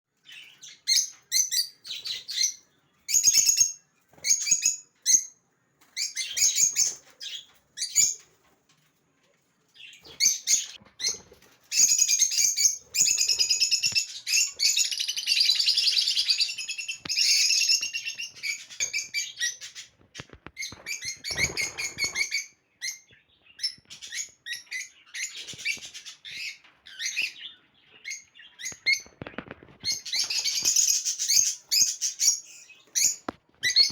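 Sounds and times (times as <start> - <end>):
lovebirds chirping: 0.1 - 8.6, 9.6 - 33.9.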